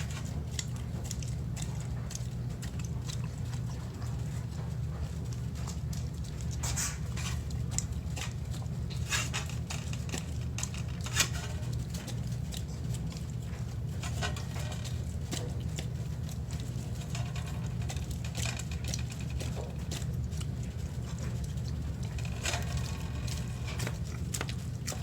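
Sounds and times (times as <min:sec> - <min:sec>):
dog eating wet food: 0:00.0 - 0:25.0.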